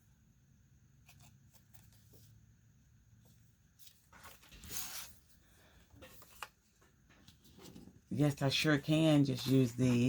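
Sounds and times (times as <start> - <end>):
paper rustling: 1.0 - 2.5, 3.2 - 10.0.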